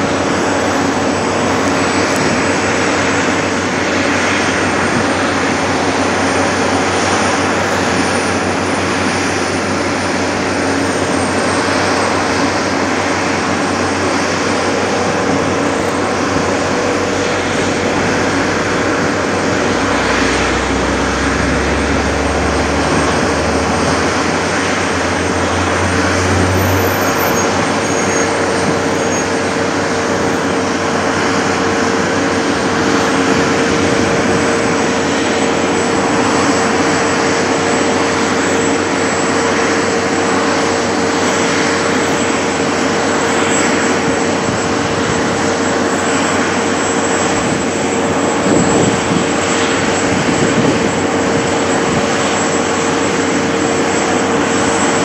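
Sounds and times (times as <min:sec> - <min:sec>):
truck engines droning: 0:00.0 - 0:55.0.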